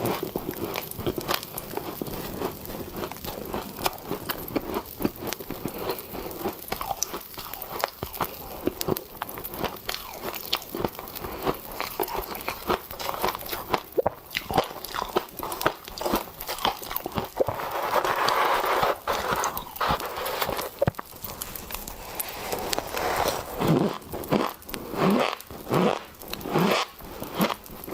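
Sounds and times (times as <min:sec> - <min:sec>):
crunchy biting and chewing: 0:00.0 - 0:27.9.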